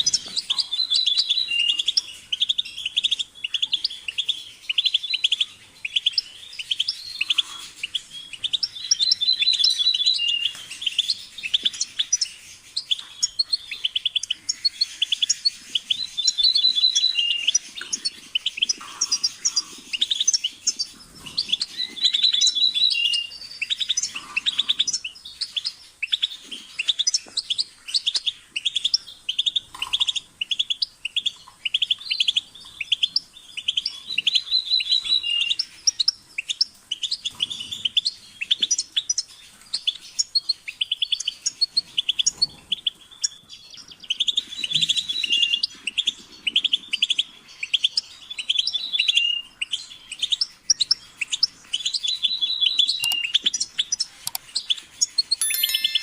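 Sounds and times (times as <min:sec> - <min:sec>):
goldfinch singing: 0:00.0 - 0:46.2, 0:50.2 - 0:56.0.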